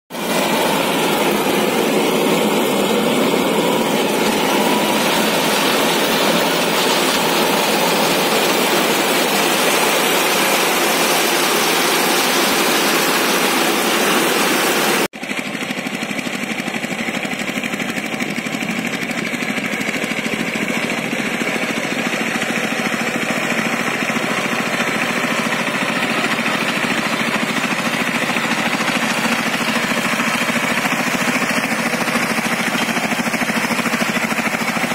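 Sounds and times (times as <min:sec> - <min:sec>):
loud farm engine noise: 0:00.1 - 0:34.9
power tiller diesel engine running: 0:00.1 - 0:34.9
tiller churning through mud: 0:00.1 - 0:34.9.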